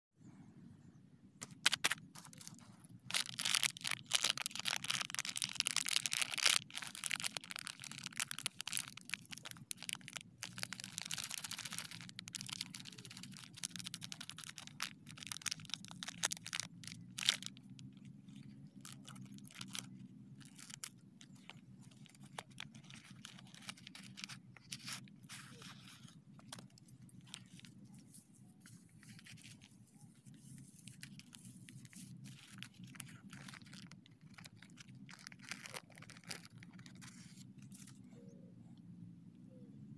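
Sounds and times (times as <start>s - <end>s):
plastic wrappers crinkling and tearing: 1.4s - 38.0s.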